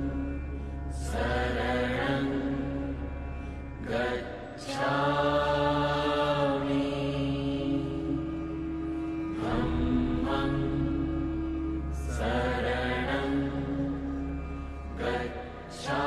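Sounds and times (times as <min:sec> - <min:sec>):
music with low drone: 0:00.0 - 0:16.0
person chanting: 0:00.0 - 0:16.0.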